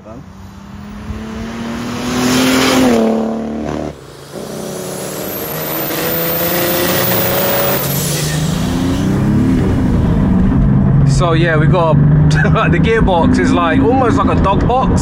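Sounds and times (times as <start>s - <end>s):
diesel engine accelerating hard: 0.0s - 15.0s.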